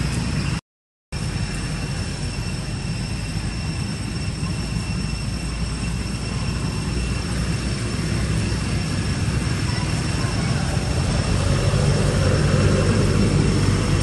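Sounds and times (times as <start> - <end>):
high-pitched whine: 0.0 - 0.6, 1.2 - 14.0
low rumble: 1.2 - 14.0.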